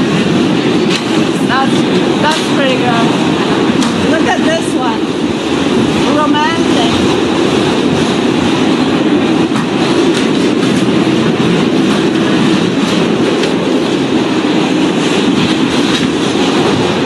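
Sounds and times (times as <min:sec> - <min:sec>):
subway wheels and motors rumbling: 0:00.0 - 0:17.0.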